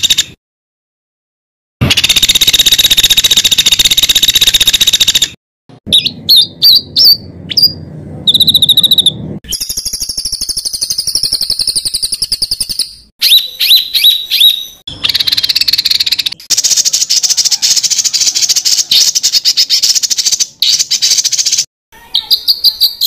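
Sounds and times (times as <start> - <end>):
songbird whistles and harsh trills: 1.8 - 23.0.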